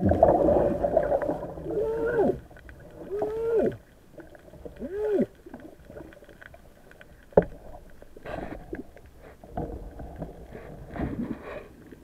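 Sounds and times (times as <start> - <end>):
underwater clicks and rustles: 0.0 - 12.0.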